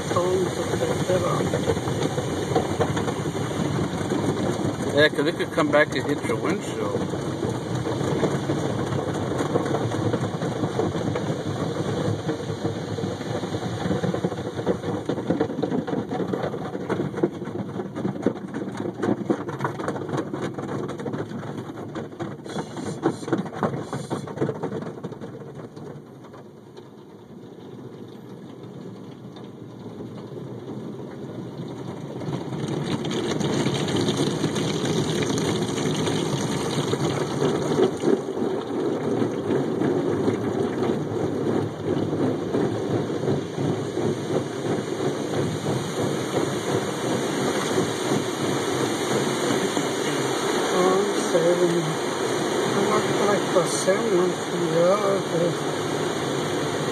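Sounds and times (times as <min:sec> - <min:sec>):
water spray drumming on car: 0:00.0 - 0:56.9.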